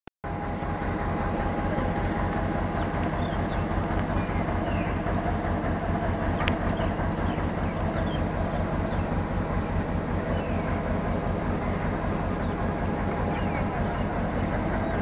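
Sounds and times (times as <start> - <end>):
diesel locomotive engine idling: 0.2 - 15.0.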